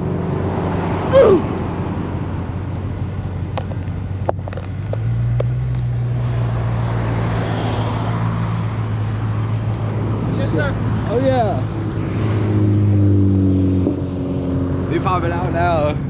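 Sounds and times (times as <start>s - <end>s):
car engine hum from inside: 0.0s - 16.0s.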